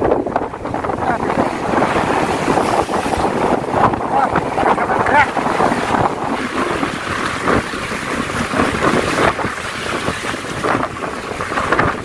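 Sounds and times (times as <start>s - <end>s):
strong wind buffeting microphone: 0.0s - 12.0s
waves washing: 0.0s - 12.0s.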